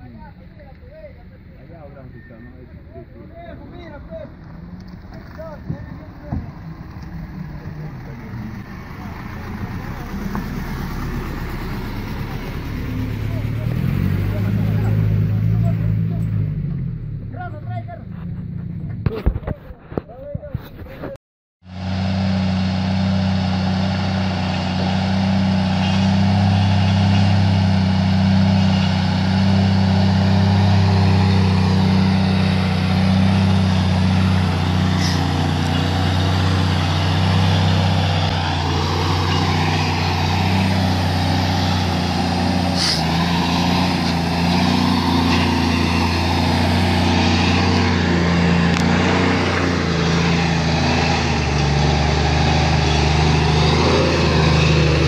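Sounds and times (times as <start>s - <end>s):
diesel truck engine running: 0.0s - 19.0s, 21.6s - 55.0s.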